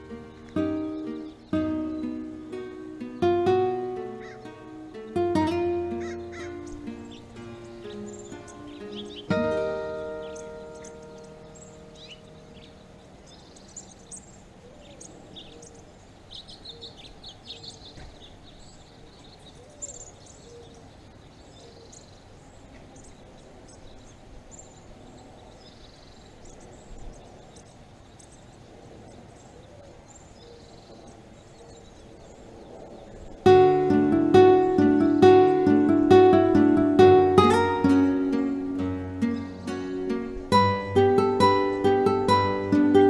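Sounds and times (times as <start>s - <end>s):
bird chirps: 0.0s - 28.6s, 33.5s - 43.0s
faint background hiss: 0.0s - 43.0s.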